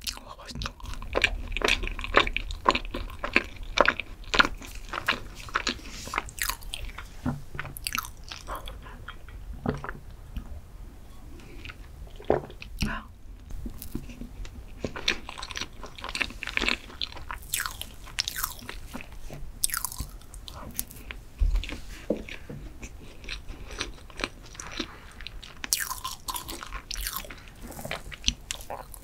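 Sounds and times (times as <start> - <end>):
mouth chewing and smacking: 0.0 - 10.5, 11.4 - 29.0.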